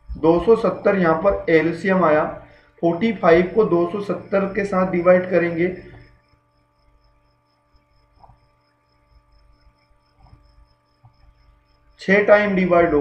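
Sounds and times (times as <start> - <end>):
faint electrical hum: 0.0 - 13.0
faint high-pitched pulsing tone: 0.0 - 13.0.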